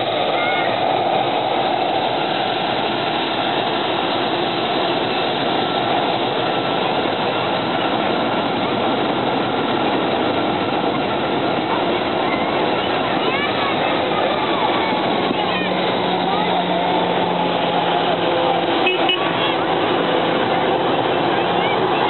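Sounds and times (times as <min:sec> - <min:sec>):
jet engine blast: 0:00.0 - 0:22.0.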